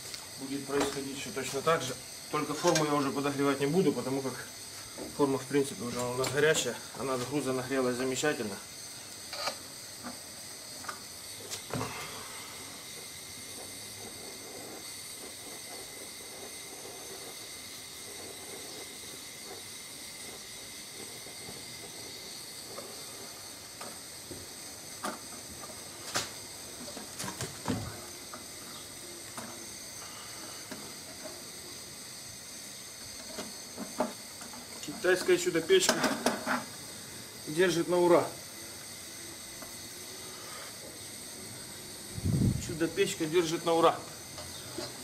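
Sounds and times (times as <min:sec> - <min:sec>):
gas burner hissing: 0:00.0 - 0:45.0.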